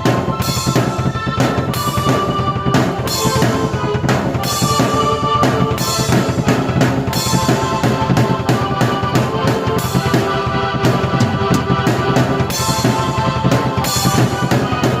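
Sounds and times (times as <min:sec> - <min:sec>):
drum kit beat: 0:00.0 - 0:15.0
held keyboard notes: 0:00.0 - 0:15.0.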